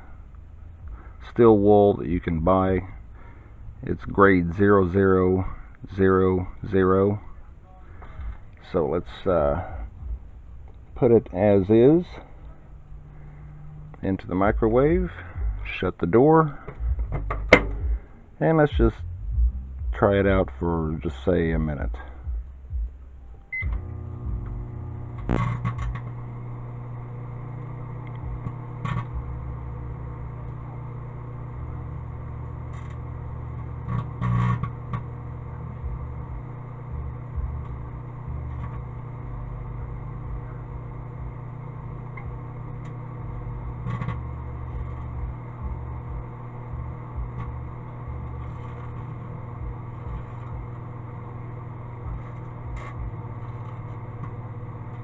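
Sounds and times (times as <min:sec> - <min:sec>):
microwave oven humming: 0:00.0 - 0:55.0.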